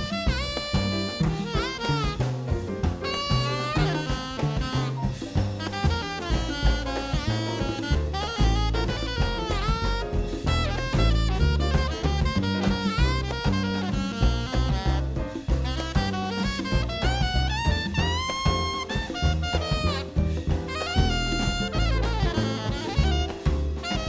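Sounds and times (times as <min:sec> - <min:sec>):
bass: 0:00.0 - 0:24.0
drum kit: 0:00.0 - 0:24.0
saxophone melody: 0:00.0 - 0:24.0.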